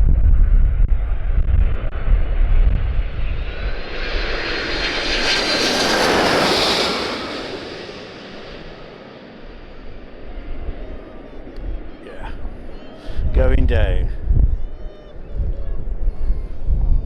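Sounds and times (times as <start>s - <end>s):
wind buffeting microphone: 0.0s - 8.8s, 9.5s - 17.0s
aircraft passing overhead: 1.7s - 17.0s.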